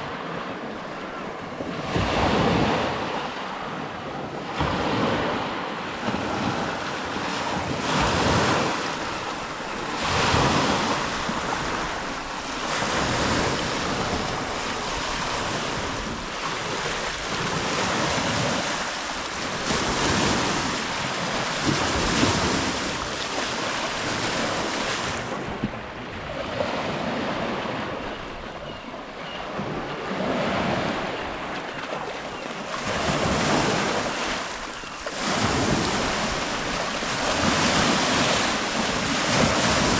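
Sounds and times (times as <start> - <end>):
lake waves washing in: 0.0 - 39.9.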